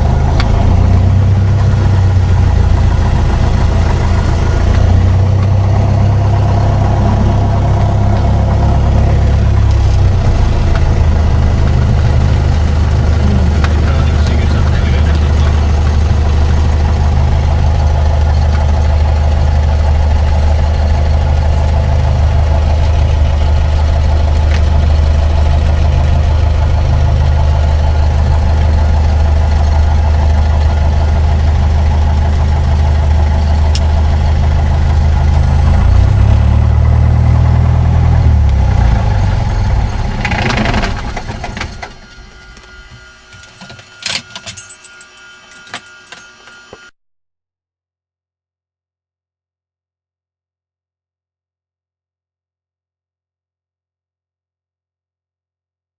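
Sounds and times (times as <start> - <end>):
aircraft engine idling: 0.0 - 46.9.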